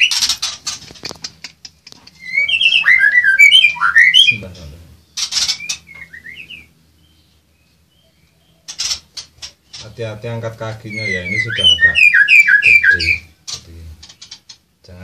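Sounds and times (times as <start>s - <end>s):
harsh rasping bird calls: 0.0s - 14.8s
birds chirping: 0.0s - 15.0s.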